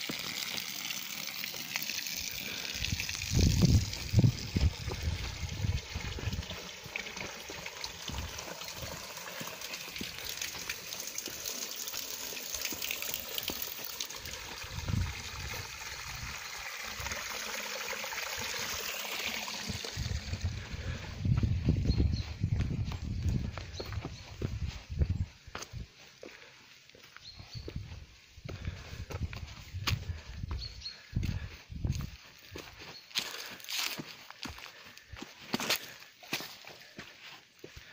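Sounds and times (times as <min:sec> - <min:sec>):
water trickling through stone channel: 0:00.0 - 0:37.9.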